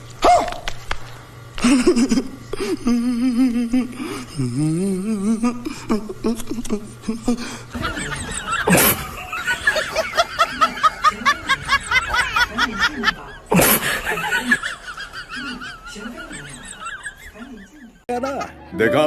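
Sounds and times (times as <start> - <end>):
high-pitched giggling: 1.6 - 18.4.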